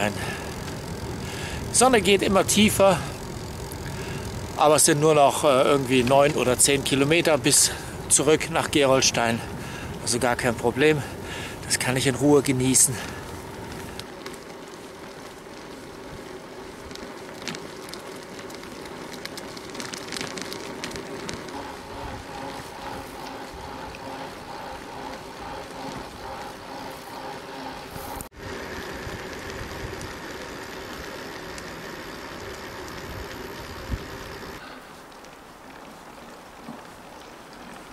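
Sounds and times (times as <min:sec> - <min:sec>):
bicycle tyres hissing on asphalt: 0:00.0 - 0:35.3
faint hum: 0:00.0 - 0:37.9.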